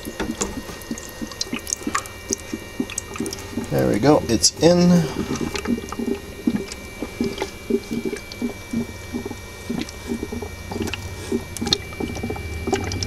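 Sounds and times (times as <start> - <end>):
gas bubbling through water: 0.0 - 13.0.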